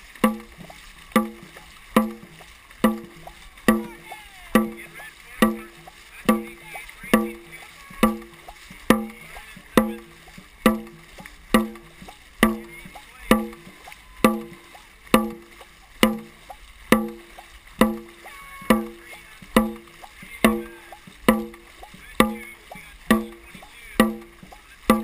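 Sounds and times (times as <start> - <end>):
drum beating steadily: 0.0 - 25.0
water splashing along a hull: 0.0 - 25.0.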